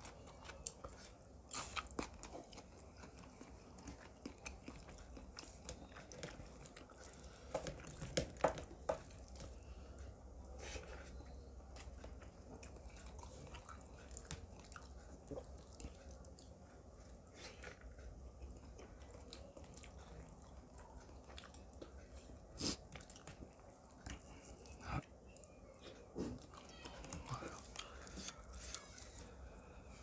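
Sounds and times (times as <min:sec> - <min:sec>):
close-up chewing food: 0:00.0 - 0:30.0.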